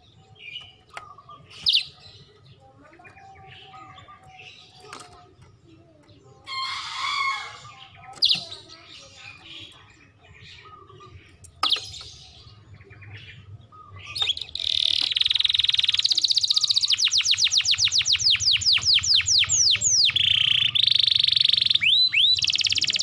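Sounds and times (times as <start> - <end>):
canary singing: 0.0 - 23.0.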